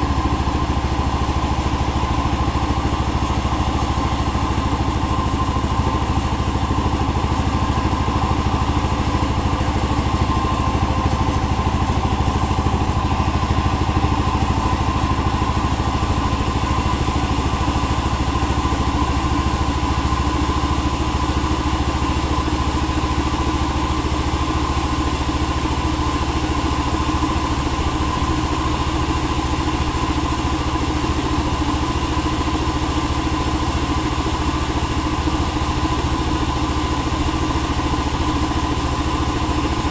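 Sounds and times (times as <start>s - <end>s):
engine-driven saw running: 0.0s - 39.9s.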